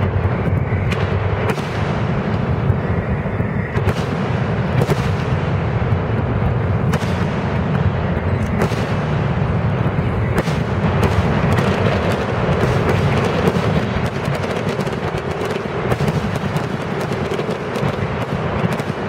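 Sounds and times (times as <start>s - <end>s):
fireworks booming rumble: 0.0s - 19.0s
sharp firework bangs: 0.0s - 19.0s.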